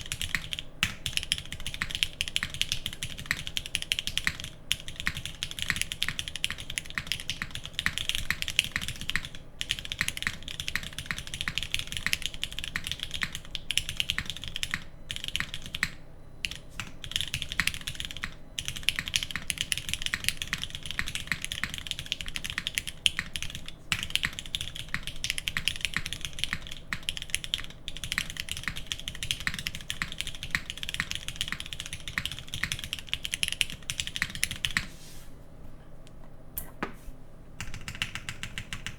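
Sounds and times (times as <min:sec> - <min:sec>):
fast typing on mechanical keyboard: 0:00.0 - 0:34.9, 0:37.6 - 0:38.9.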